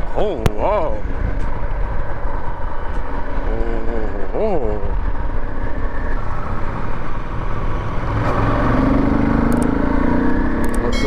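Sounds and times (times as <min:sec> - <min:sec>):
motorcycle engine hum: 0:00.0 - 0:11.0
wind noise on microphone: 0:00.0 - 0:11.0.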